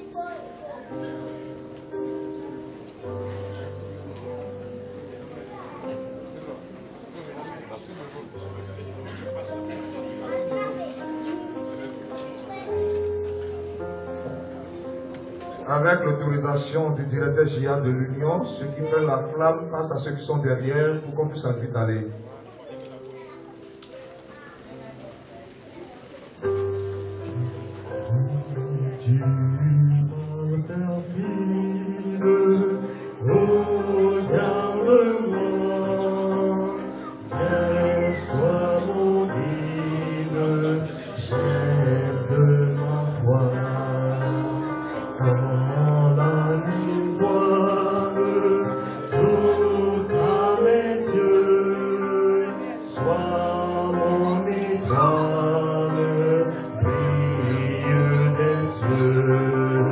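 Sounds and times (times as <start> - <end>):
slow music of held chords: 0.0 - 7.1, 8.4 - 21.7, 26.3 - 59.9.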